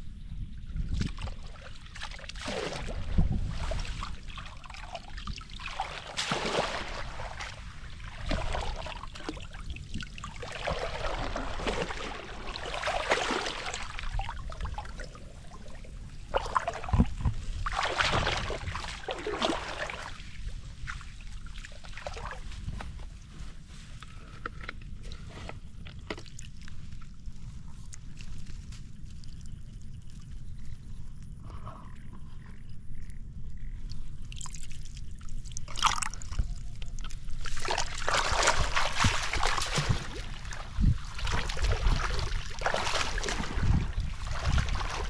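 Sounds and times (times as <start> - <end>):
water splashing and trickling: 0.8 - 23.1, 25.6 - 30.8, 33.9 - 45.0.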